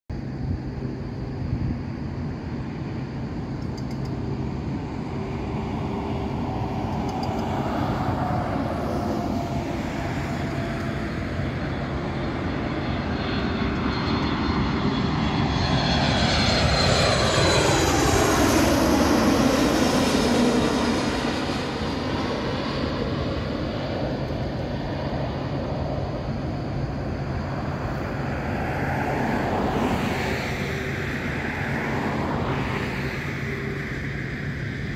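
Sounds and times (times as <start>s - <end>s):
jet airliner passing by: 0.1s - 34.9s.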